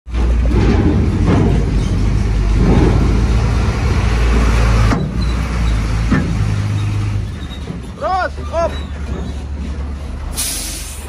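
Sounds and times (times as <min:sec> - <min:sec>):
diesel truck engine passing: 0:00.1 - 0:11.0.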